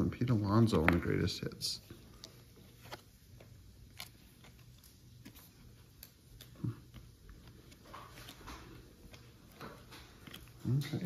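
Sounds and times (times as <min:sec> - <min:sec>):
trading cards being flipped: 0:02.0 - 0:11.0.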